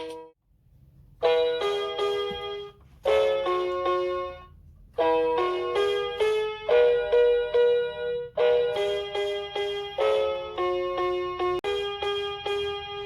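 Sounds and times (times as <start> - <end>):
toy keyboard playing melody: 1.2 - 13.0.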